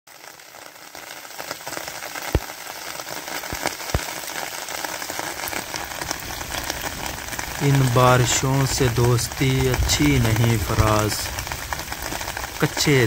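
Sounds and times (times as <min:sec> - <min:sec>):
heavy rain on puddles: 0:00.1 - 0:13.0
close water splats: 0:01.5 - 0:13.0.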